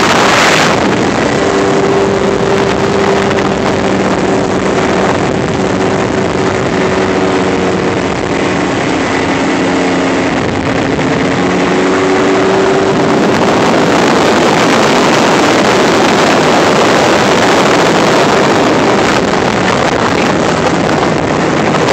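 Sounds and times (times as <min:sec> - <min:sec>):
outboard motor running: 0:00.0 - 0:21.9
rushing noise: 0:00.0 - 0:21.9.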